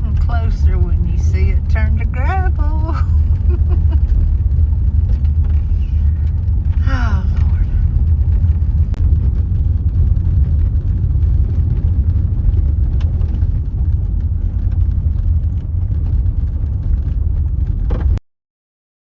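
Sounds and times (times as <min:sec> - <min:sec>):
car tyres rumbling on gravel: 0:00.0 - 0:18.2.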